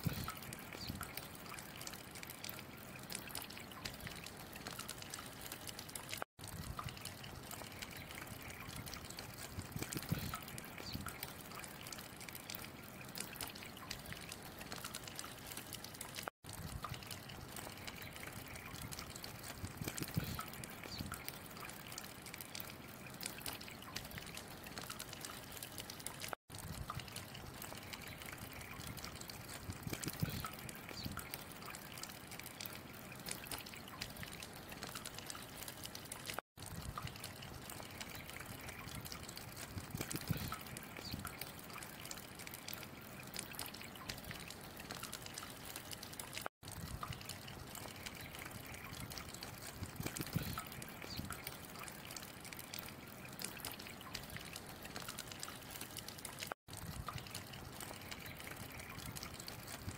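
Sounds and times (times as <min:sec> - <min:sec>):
water trickling into basin: 0:00.0 - 0:59.9.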